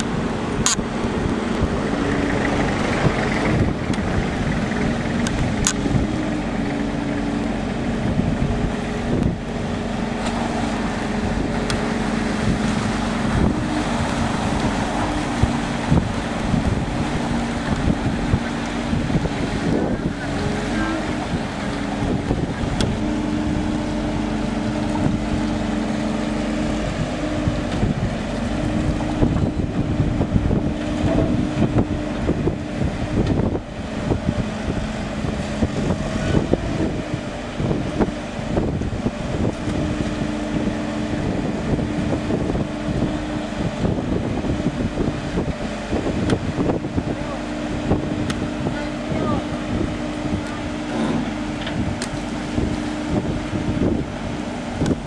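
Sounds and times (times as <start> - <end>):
dredger engine running: 0.0 - 55.0
wind buffeting microphone: 0.0 - 55.0.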